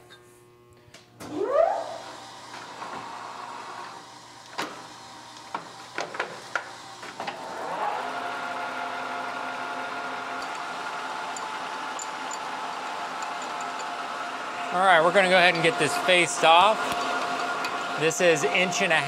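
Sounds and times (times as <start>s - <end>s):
lathe motor whine and hum: 1.2s - 19.0s.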